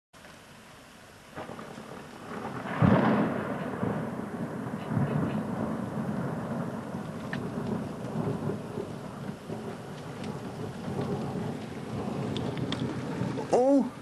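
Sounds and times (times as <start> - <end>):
heavy rain and hail: 0.2 - 14.0
rumble of thunder: 1.3 - 14.0
hailstones ticking: 1.4 - 14.0.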